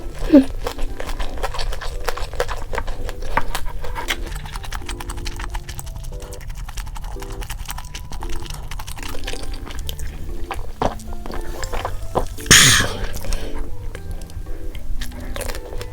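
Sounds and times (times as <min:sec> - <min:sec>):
cheerful plucked background music: 0:00.0 - 0:15.9
crisp crunching of eating: 0:00.0 - 0:15.9.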